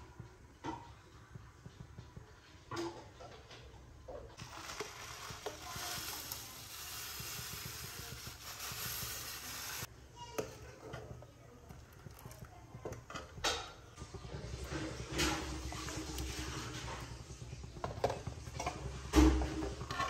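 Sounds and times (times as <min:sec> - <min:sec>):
steady hiss of boiling milk: 0:00.0 - 0:20.0.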